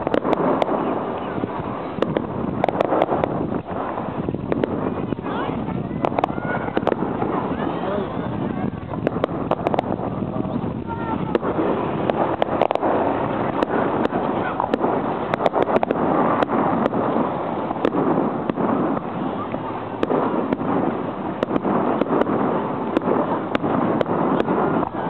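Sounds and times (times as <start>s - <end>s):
firework shells bursting: 0.0s - 25.0s
steady background din: 0.0s - 25.0s.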